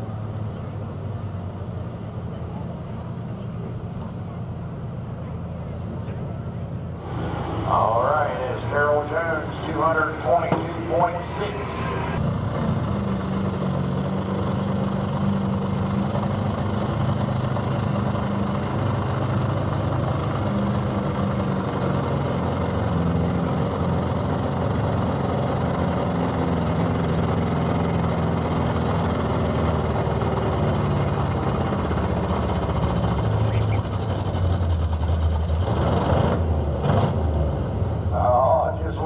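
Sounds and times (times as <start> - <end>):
pickup truck engine under load: 0.0 - 38.1.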